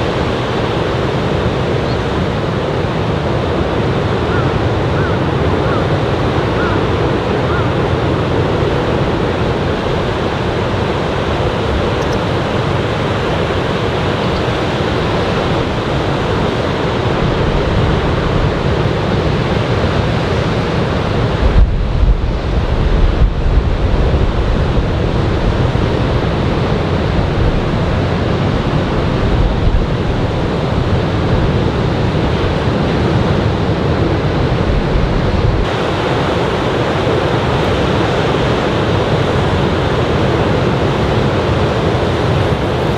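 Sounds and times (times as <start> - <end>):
surf roaring on beach: 0.0 - 42.9
wind buffeting microphone: 0.0 - 42.9.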